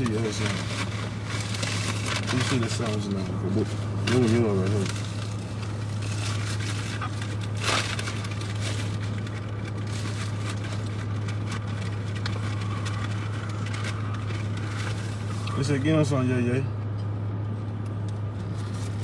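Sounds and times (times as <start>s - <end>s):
faint rustling: 0.0s - 15.8s
car cabin engine hum: 0.0s - 19.0s.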